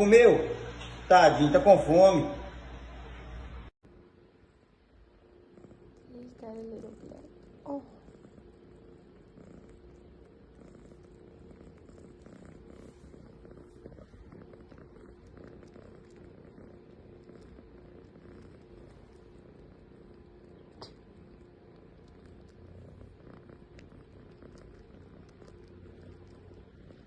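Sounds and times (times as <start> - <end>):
cat purring: 2.6 - 27.0.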